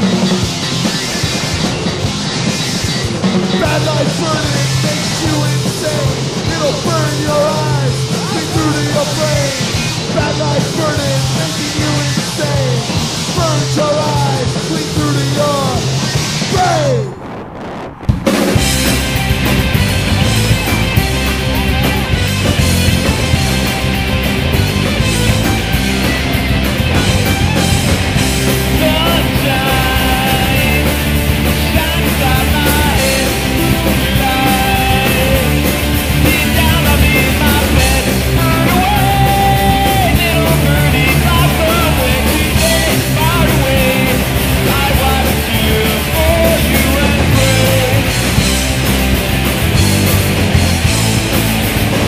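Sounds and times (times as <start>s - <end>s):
rock song with singing: 0.0s - 52.0s.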